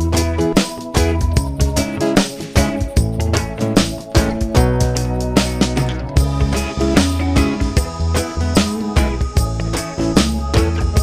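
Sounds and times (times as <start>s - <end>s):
guitar and bass music with beat: 0.0s - 11.0s.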